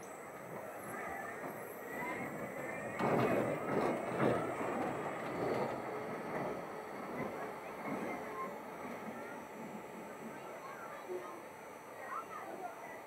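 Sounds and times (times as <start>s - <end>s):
coaster wheels rumbling on track: 0.0s - 13.0s.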